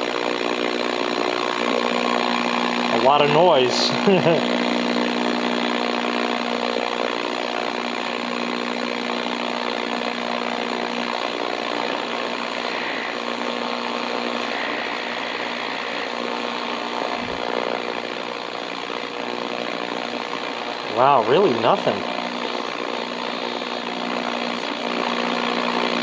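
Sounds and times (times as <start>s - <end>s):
low electrical buzz: 0.0s - 26.0s
radio static hiss: 0.0s - 26.0s.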